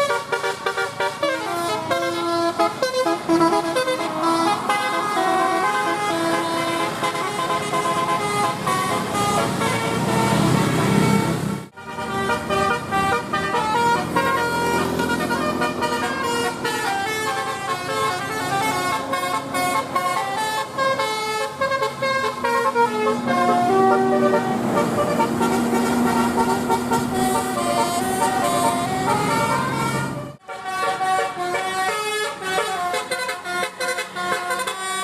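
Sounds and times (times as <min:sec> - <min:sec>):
multi-tone air horn melody: 0:00.0 - 0:35.0.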